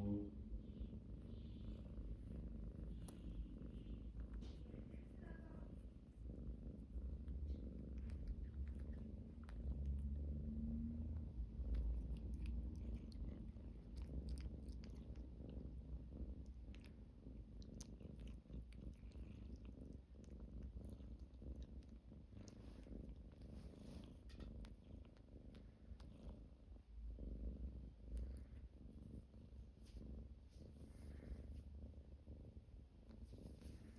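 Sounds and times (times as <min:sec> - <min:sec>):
cat purring: 0:00.0 - 0:33.9.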